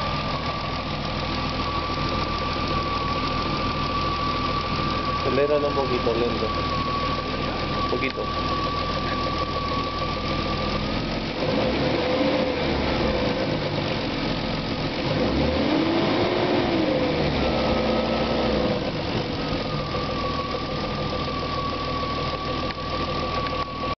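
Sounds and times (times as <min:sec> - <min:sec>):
car engine idling and revving: 0:00.0 - 0:23.9
engine bad noise: 0:00.0 - 0:23.9.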